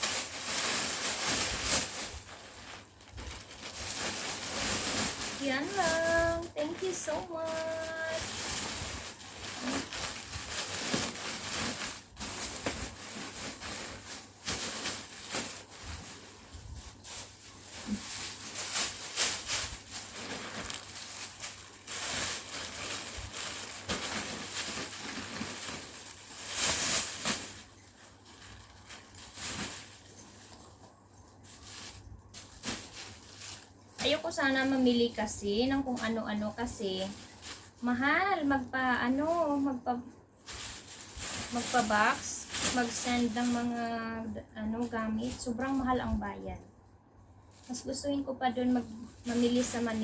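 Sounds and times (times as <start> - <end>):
bags rustling and crinkling: 0.0 - 50.0.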